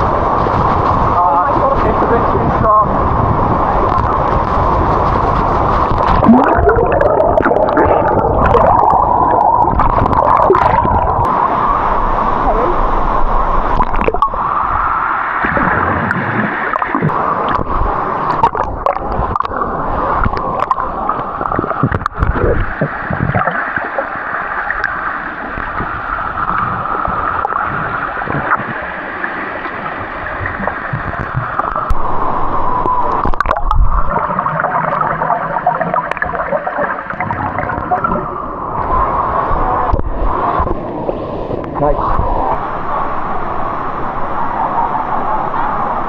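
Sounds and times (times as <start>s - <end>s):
water gurgling and sloshing: 0.0s - 46.0s.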